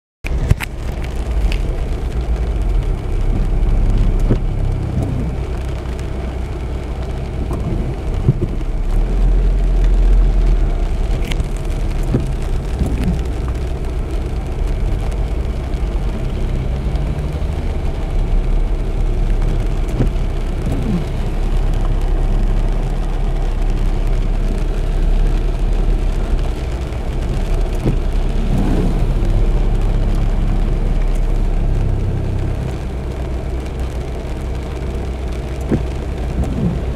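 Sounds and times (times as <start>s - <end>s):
car engine rumble: 0.2s - 36.9s
rain falling on car: 0.2s - 36.9s
tyres rolling on wet road: 0.2s - 36.9s.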